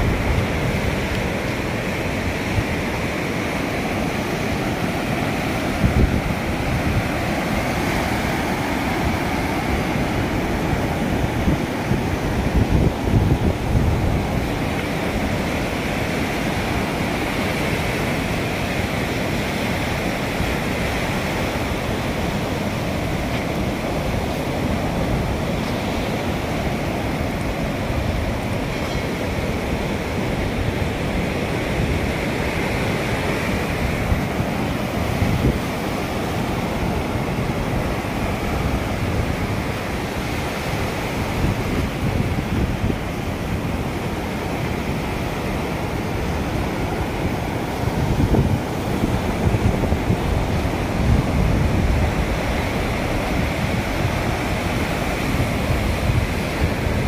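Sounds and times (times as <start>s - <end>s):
surf washing onto beach: 0.0s - 57.0s
wind buffeting microphone: 0.0s - 57.0s.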